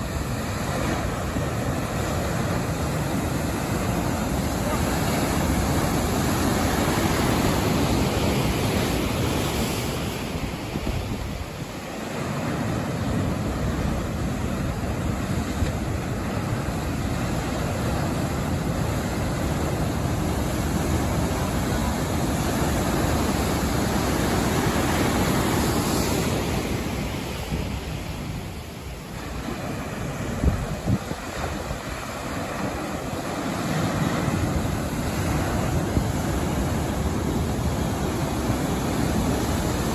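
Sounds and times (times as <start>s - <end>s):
ocean surf breaking: 0.0s - 39.9s
wind on microphone: 0.0s - 39.9s.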